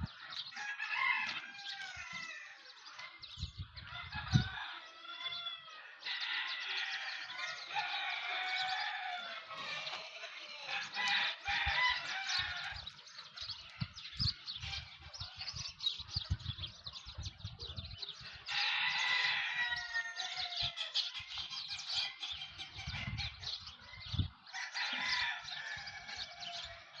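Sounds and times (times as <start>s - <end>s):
roosters crowing: 0.0s - 16.0s, 18.0s - 27.0s
chickens clucking: 0.0s - 27.0s.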